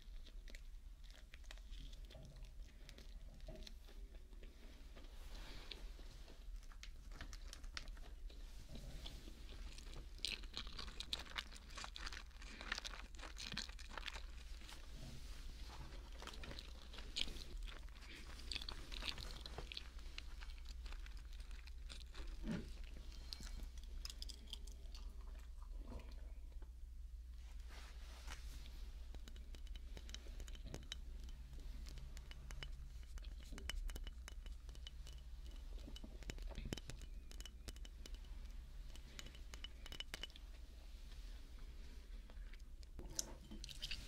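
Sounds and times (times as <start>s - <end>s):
close-up chewing with crunchy clicks: 0.0s - 5.1s, 5.7s - 14.9s, 15.7s - 26.8s, 29.0s - 40.6s.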